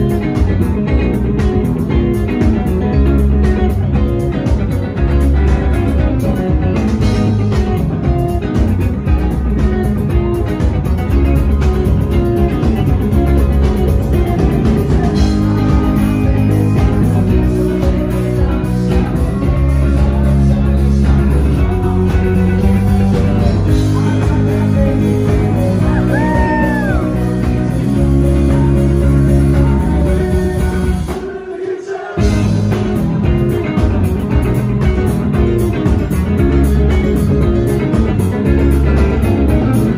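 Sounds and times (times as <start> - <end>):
bass guitar: 0.0 - 31.4, 32.2 - 39.9
drums: 0.0 - 39.9
electric guitars: 0.0 - 39.9.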